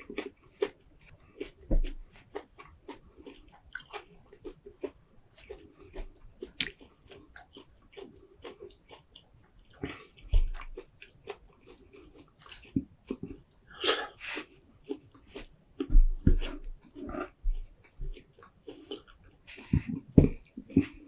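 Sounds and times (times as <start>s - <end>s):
chewing and wet mouth smacks: 0.0s - 21.0s.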